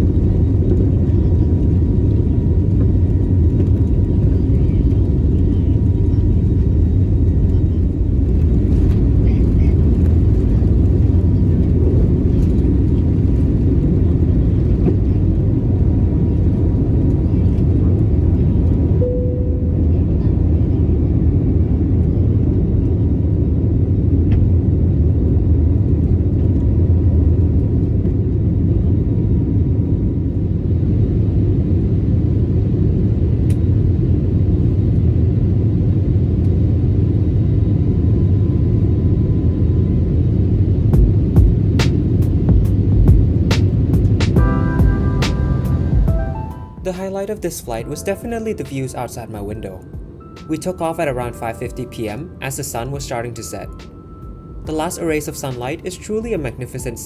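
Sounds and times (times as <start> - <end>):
jet engine rumble in cabin: 0.0 - 46.3.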